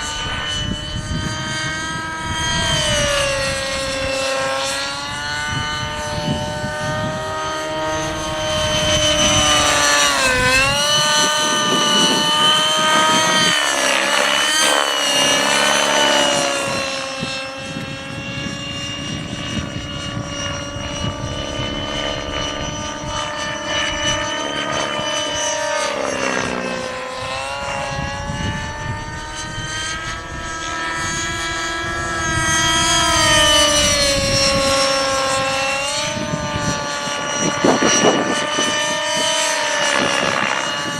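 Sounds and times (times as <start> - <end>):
rc helicopter engine and rotors: 0.0 - 40.9.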